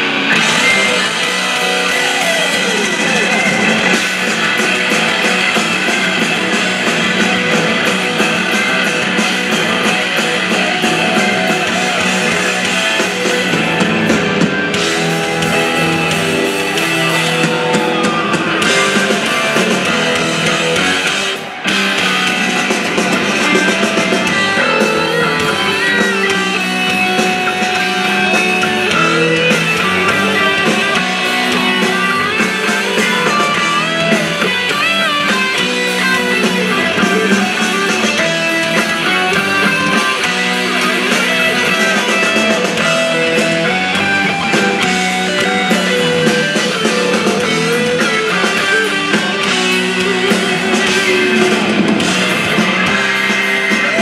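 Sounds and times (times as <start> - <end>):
bass guitar: 0.0 - 54.0
electric guitar: 0.0 - 54.0
keyboards: 0.0 - 54.0.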